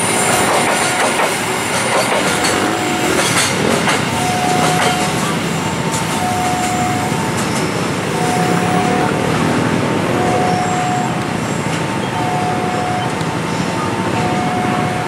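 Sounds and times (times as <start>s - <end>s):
freight train wheels rumbling: 0.0s - 15.0s
two-tone crossing alarm: 0.0s - 15.0s.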